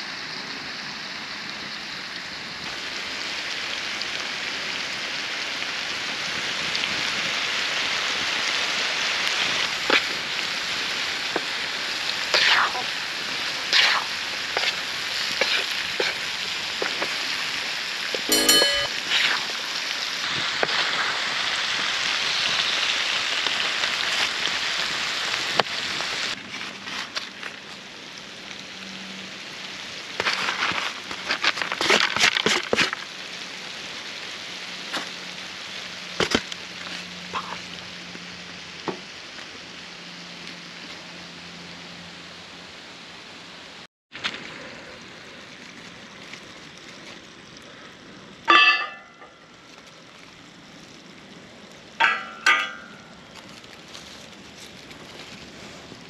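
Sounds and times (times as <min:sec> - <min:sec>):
mushrooms sizzling in a pan: 0:00.2 - 0:26.4, 0:27.1 - 0:40.0, 0:44.8 - 0:55.9.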